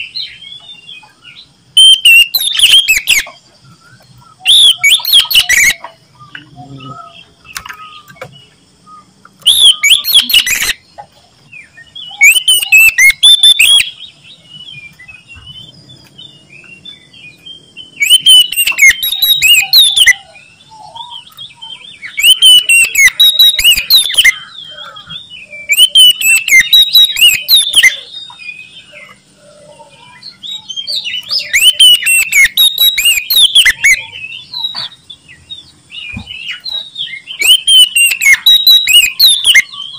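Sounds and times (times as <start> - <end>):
bird singing whistles and trills: 0.0 - 39.9
soft bird twittering: 0.0 - 39.9.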